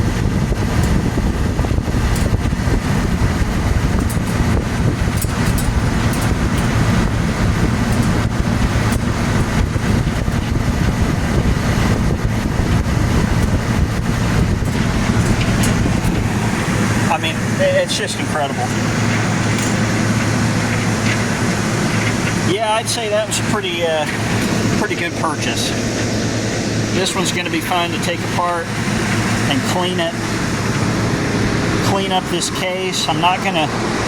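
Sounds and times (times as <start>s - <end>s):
air conditioner fan blowing: 0.0s - 34.0s
compressor humming: 0.0s - 34.0s.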